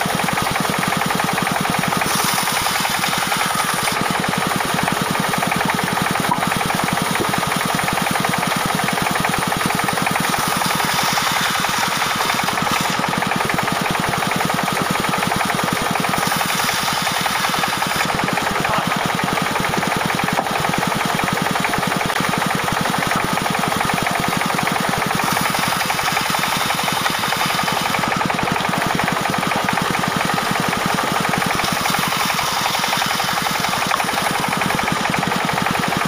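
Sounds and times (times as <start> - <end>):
saw blade cutting log: 0.0 - 36.0
sawmill engine running: 0.0 - 36.0.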